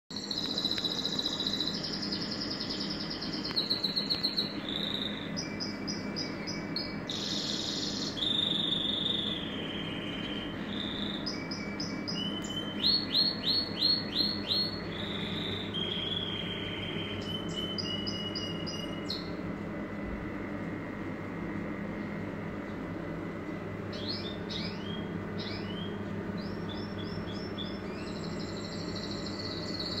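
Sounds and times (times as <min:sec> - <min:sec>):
canary singing: 0:00.1 - 0:19.5, 0:23.7 - 0:30.0.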